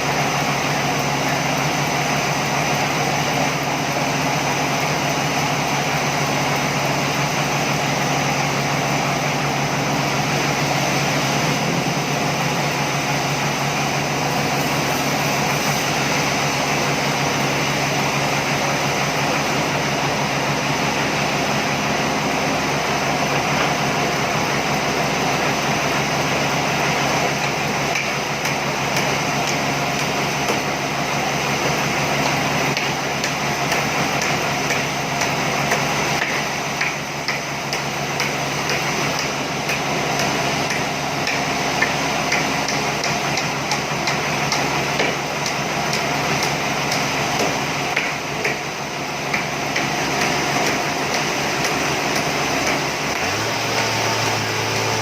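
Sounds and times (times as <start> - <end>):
machine humming: 0.0 - 55.0.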